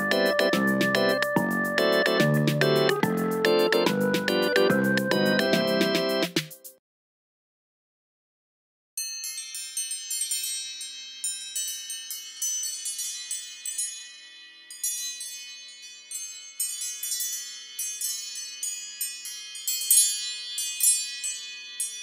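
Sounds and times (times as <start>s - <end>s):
chime-like ringtone: 0.0s - 6.2s, 9.0s - 22.0s.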